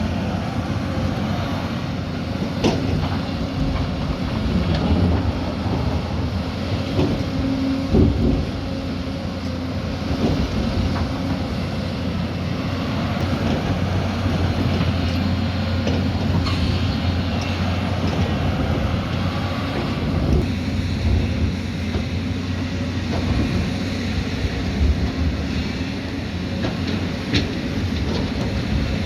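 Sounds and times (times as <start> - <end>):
heavy diesel machinery engine hum: 0.0 - 29.0.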